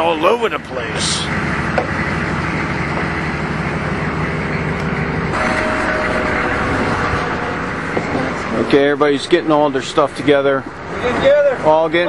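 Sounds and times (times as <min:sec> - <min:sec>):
large vehicle engine rumble: 0:00.0 - 0:12.0.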